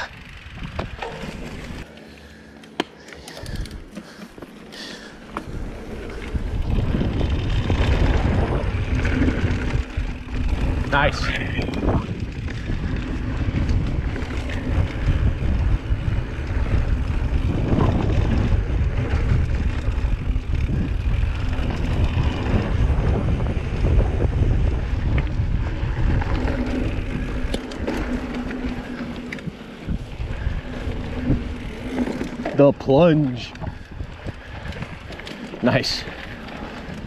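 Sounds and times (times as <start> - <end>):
wind buffeting microphone: 0.0 - 1.9, 5.1 - 37.0
bike tyres rumbling on dirt: 0.0 - 37.0.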